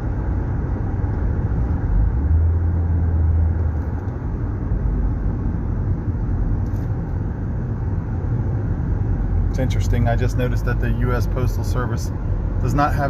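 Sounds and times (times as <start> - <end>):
car cabin drone while cruising: 0.0 - 13.0
strong low hum: 0.0 - 13.0.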